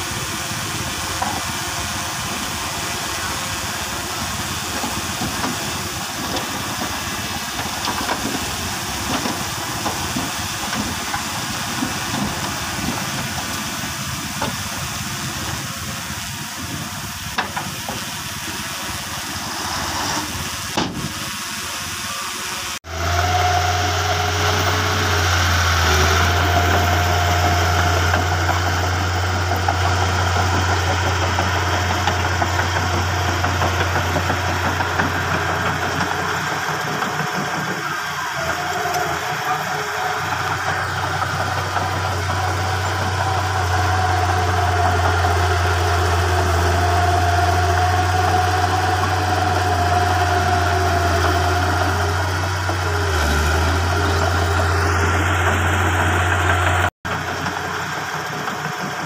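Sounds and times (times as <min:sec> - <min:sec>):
bulldozer diesel engine running: 0:00.0 - 0:59.0
hissy mechanical noise: 0:00.0 - 0:59.0.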